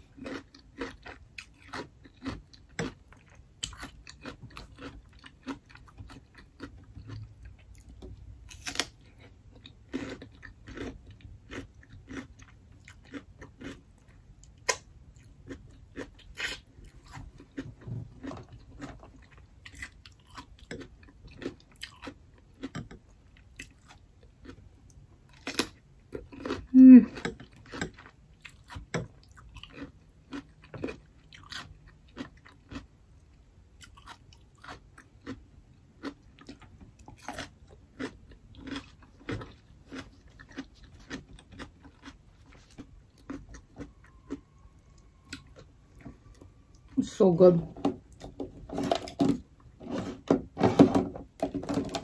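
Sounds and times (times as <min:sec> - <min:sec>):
crunchy cucumber chewing: 0:00.0 - 0:46.9.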